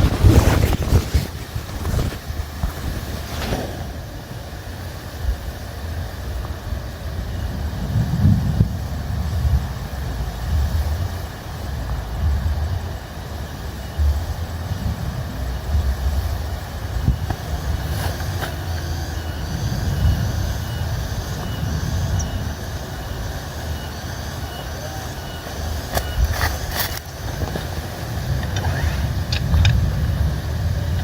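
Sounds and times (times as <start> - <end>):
wind gusting over microphone: 0.0 - 24.4, 25.0 - 31.0
rain hiss: 0.0 - 31.0.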